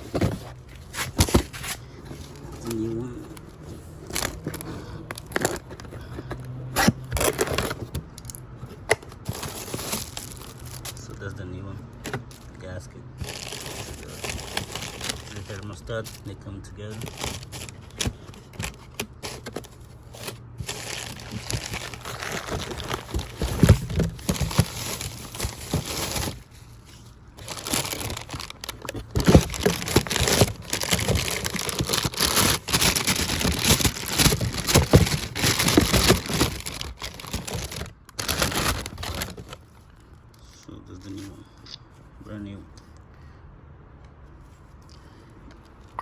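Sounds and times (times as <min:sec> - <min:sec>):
plastic packaging crinkling: 0:00.0 - 0:11.2, 0:13.2 - 0:40.0.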